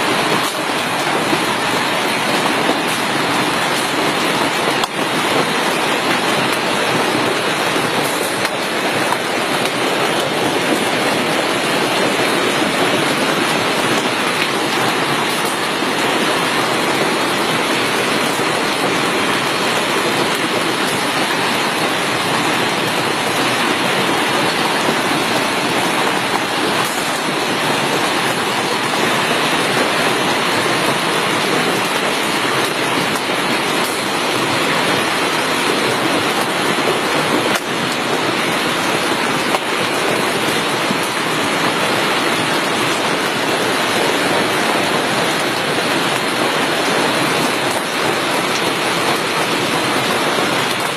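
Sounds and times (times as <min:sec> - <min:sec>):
hail and rain pelting: 0:00.0 - 0:50.9.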